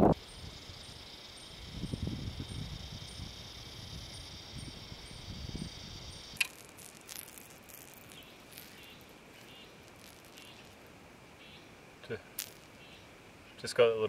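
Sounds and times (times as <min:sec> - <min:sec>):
high insect buzzing: 0:00.0 - 0:13.1
faint chirping: 0:00.0 - 0:14.0.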